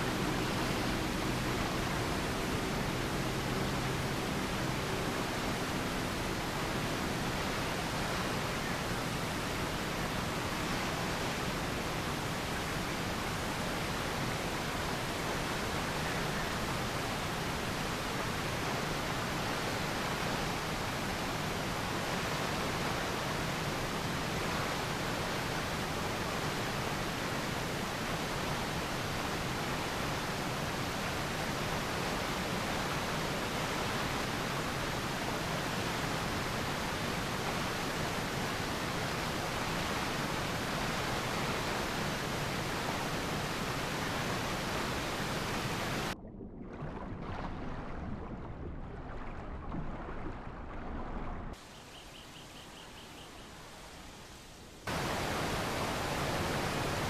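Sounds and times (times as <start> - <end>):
steady static hiss: 0.0 - 46.2, 51.6 - 57.0.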